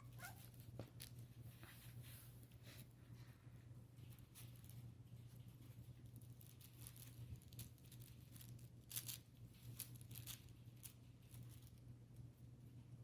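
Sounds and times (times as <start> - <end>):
puppies rustling fabric: 0.0 - 11.8.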